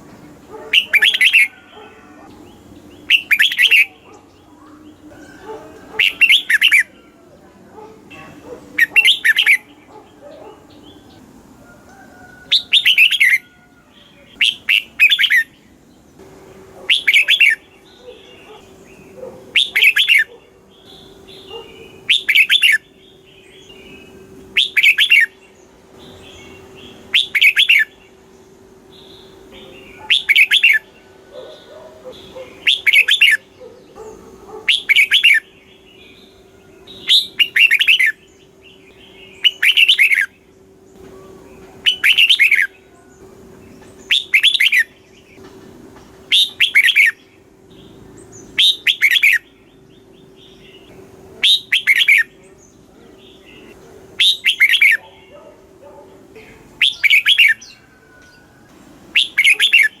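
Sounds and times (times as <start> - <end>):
bird singing chirpy phrases: 0.0 - 11.4, 12.5 - 45.5, 46.2 - 60.0
faint steady hum: 0.0 - 60.0.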